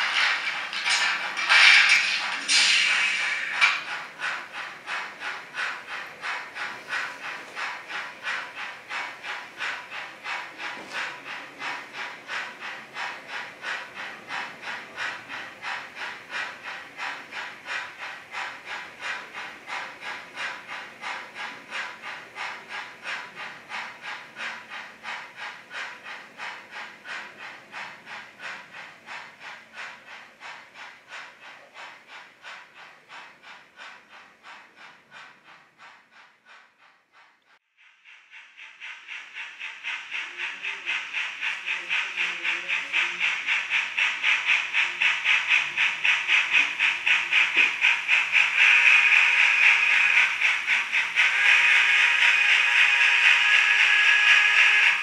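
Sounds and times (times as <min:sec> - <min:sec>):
model steam locomotive chuffing: 0:00.0 - 0:55.0.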